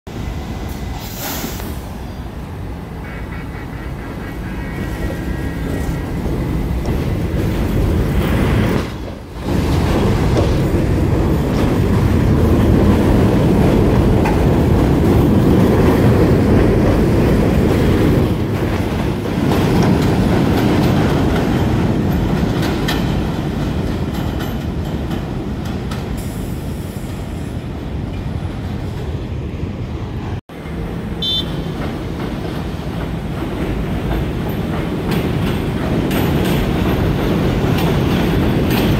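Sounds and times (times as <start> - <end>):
subway train rumbling: 0.0 - 38.9.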